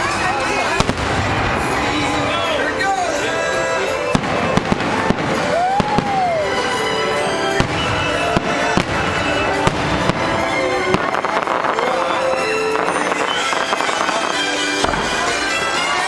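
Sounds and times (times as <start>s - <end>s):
fireworks bursting: 0.0s - 16.0s
music: 0.0s - 16.0s.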